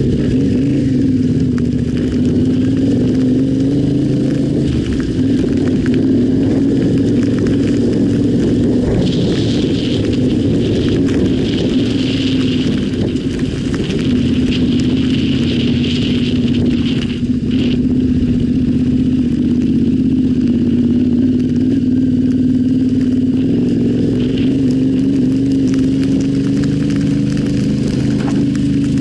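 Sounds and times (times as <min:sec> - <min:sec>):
motorcycle engine running: 0:00.0 - 0:29.0
small ticks and clicks: 0:00.1 - 0:29.0.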